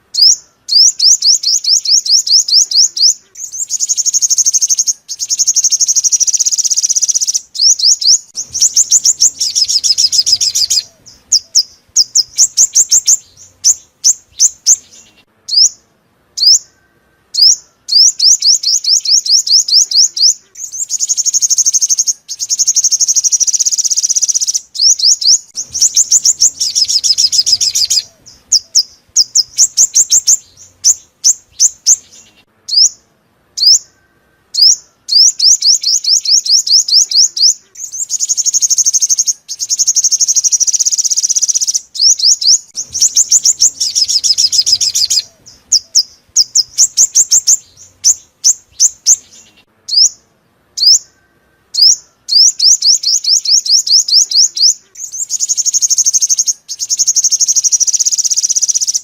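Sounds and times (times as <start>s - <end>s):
sunbird high-pitched trills: 0.0s - 15.8s, 16.4s - 59.0s.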